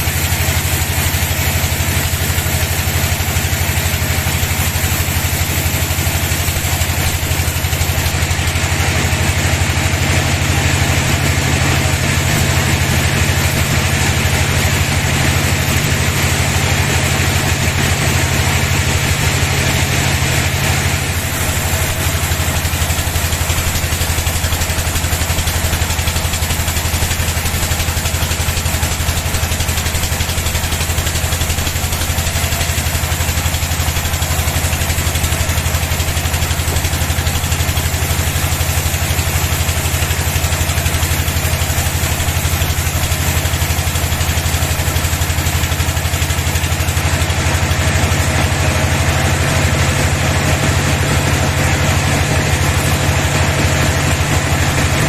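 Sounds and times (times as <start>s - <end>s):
bandsaw running: 0.0s - 55.0s
hiss: 0.0s - 55.0s.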